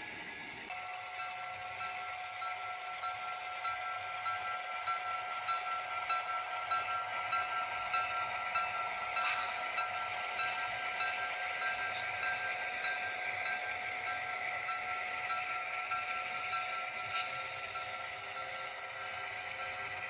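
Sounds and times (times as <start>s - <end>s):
model train whine: 0.0s - 20.0s
wheels clicking on rails: 0.0s - 20.0s.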